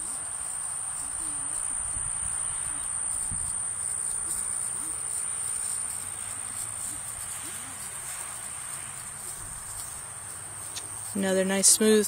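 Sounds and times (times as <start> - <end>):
high-pitched whine: 0.0 - 10.0
outdoor background hiss: 0.0 - 12.0.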